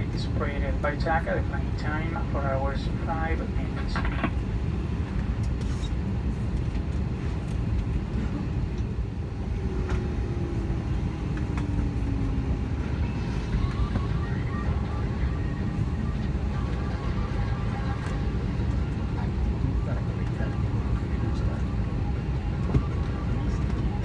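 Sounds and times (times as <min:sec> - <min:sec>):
aircraft air system rumble: 0:00.0 - 0:24.0.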